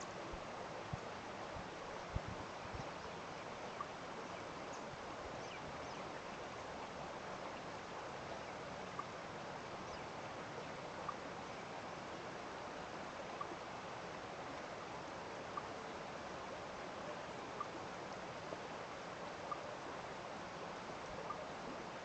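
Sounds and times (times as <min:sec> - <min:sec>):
running water hiss: 0:00.0 - 0:22.0.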